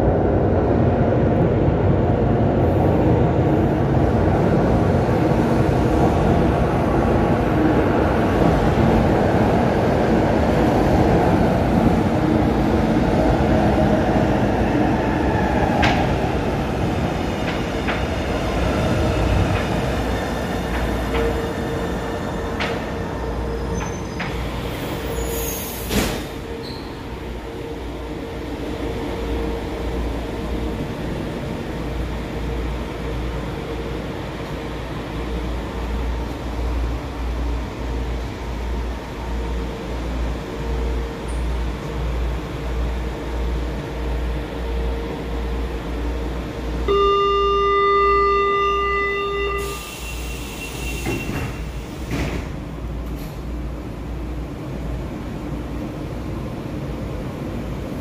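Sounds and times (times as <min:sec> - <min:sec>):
subway train rumble and whine: 0:00.0 - 0:58.0.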